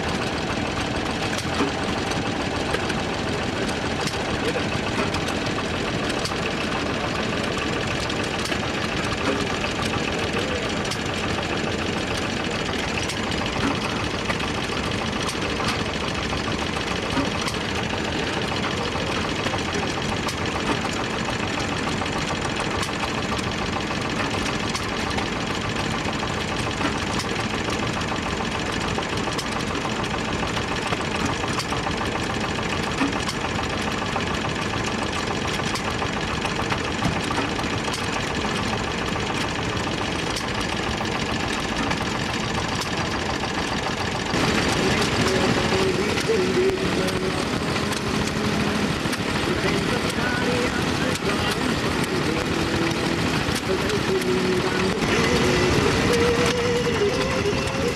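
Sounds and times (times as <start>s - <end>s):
vintage engines clattering: 0.0s - 57.9s.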